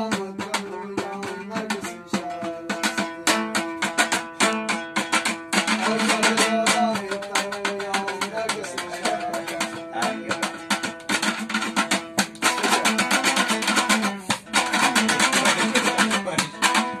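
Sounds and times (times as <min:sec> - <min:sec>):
lute strummed fast: 0:00.0 - 0:17.0.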